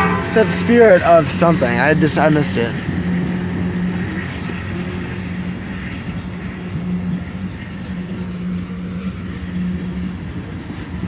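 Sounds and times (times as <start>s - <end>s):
low hum: 0.0s - 11.0s
train wheels rumbling on rails: 0.0s - 11.0s.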